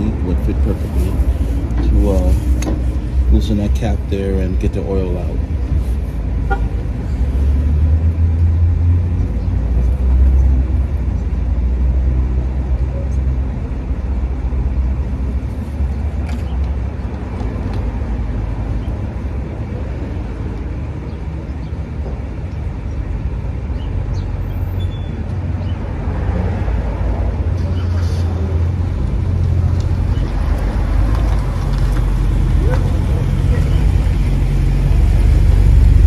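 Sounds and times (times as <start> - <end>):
road traffic rumble: 0.0 - 36.0
vehicle engine running: 0.0 - 36.0.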